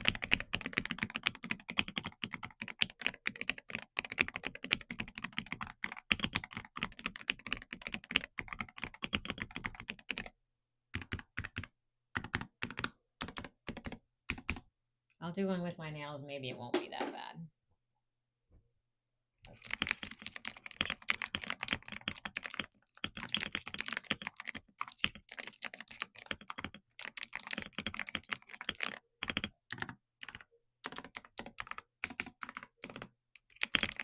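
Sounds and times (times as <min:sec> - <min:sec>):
mechanical keyboard typing: 0:00.0 - 0:10.3, 0:10.9 - 0:14.6, 0:19.5 - 0:34.0.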